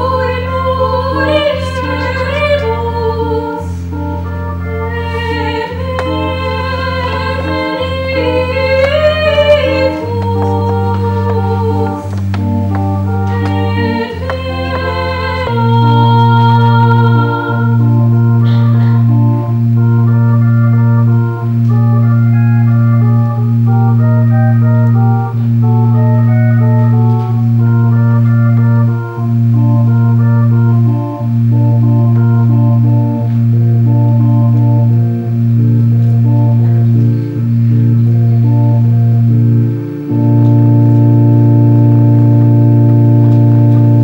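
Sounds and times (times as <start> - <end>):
organ music: 0.0 - 44.0.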